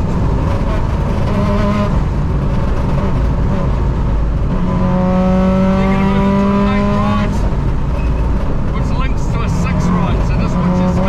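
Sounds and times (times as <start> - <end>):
car engine at speed: 0.0 - 11.0
road noise inside car: 0.0 - 11.0.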